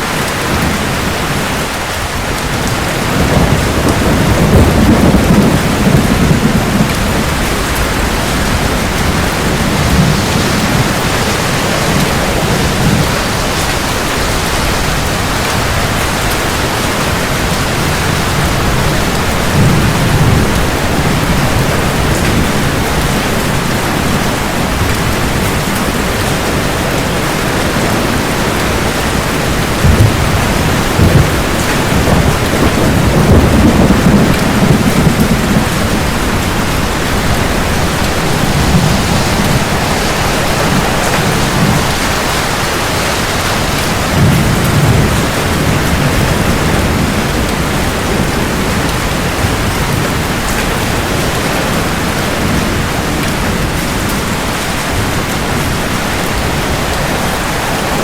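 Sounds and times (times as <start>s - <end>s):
heavy rain: 0.0s - 58.0s
rolling thunder: 0.0s - 58.0s.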